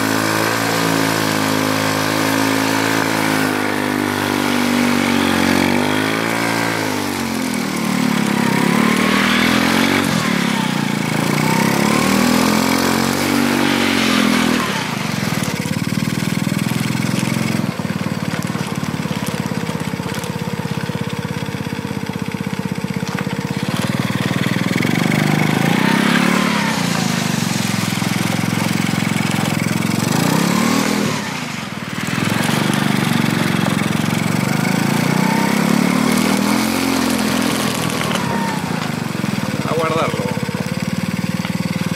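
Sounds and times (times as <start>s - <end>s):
small kart engine revving: 0.0s - 41.9s.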